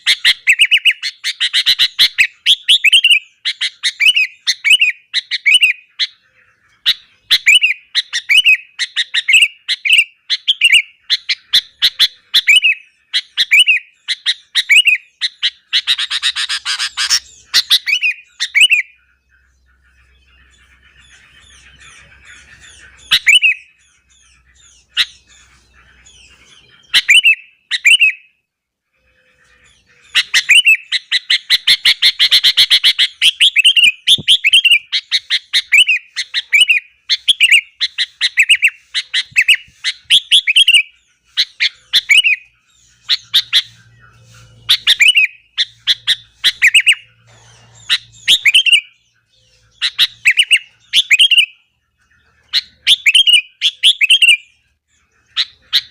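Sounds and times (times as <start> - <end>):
bulbul chirping: 0.0 - 28.4, 29.1 - 55.9.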